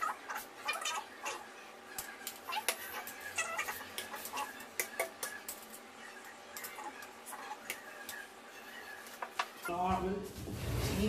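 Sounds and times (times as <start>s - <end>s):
animal calls: 0.0s - 9.7s.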